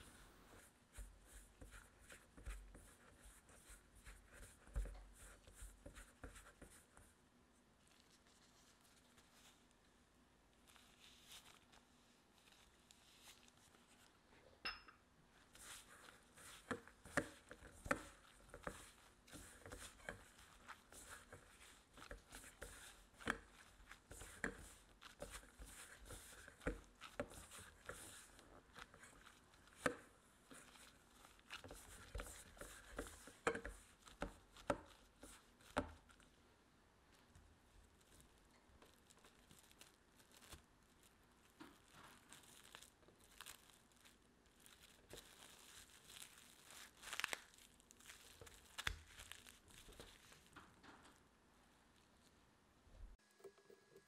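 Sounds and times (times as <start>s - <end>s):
dough squishing: 0.0s - 14.4s, 15.3s - 52.3s.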